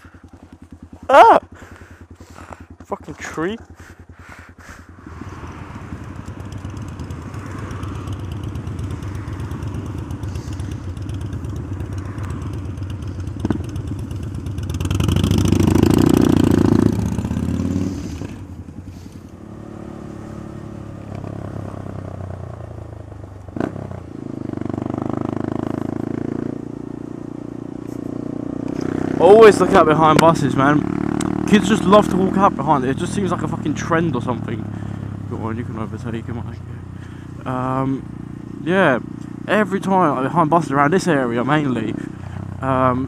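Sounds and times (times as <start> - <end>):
motorcycle engine running: 0.0 - 43.0
road noise: 0.0 - 43.0.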